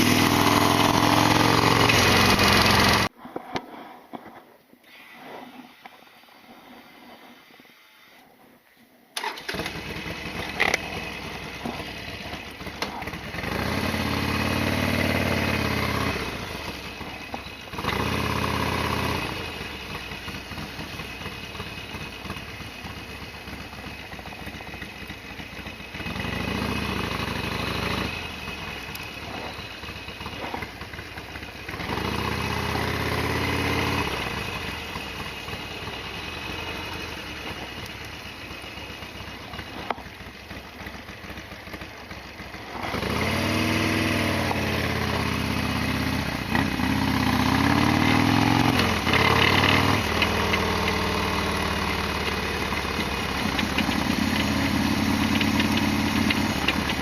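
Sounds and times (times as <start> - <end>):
motorcycle engine idling and revving: 0.0 - 4.4, 9.2 - 57.0.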